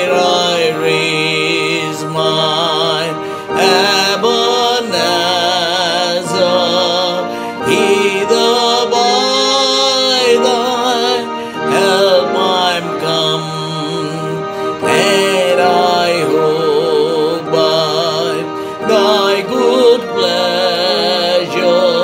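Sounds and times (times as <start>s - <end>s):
organ chords: 0.0s - 22.0s
voices singing a hymn: 0.0s - 22.0s.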